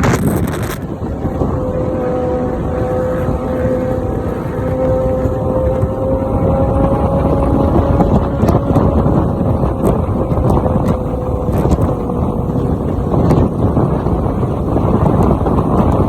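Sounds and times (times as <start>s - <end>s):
engine note dropping in pitch: 0.0s - 16.0s
heavy wind rush: 0.0s - 16.0s
motorcycle engine running: 0.0s - 16.0s.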